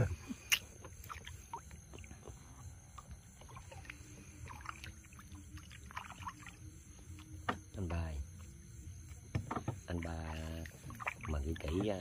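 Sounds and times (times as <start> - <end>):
small water splashes and drips: 0.5 - 8.5, 9.1 - 12.0.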